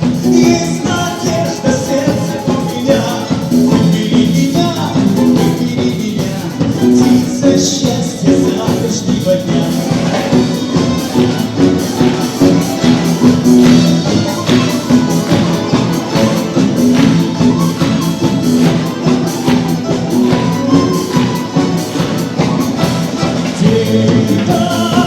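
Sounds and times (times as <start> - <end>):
folk instrument orchestra playing: 0.0 - 25.0
percussion beat: 0.0 - 25.0.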